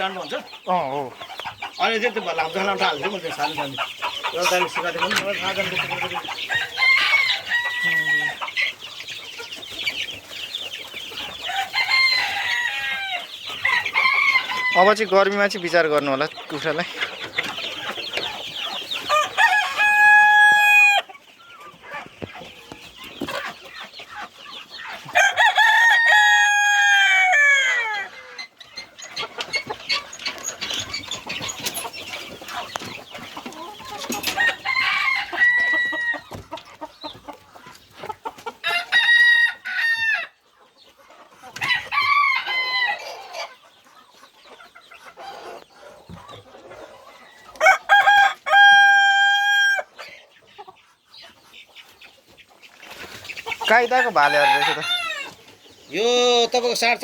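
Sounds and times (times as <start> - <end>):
roosters crowing: 0.0 - 40.5, 41.4 - 43.7, 45.2 - 50.2, 53.1 - 57.0
chickens clucking: 0.0 - 57.0.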